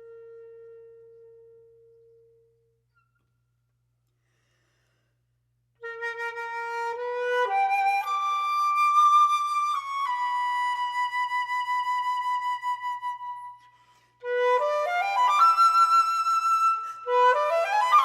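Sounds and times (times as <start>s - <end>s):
solo flute: 0.0s - 2.6s, 5.8s - 18.0s.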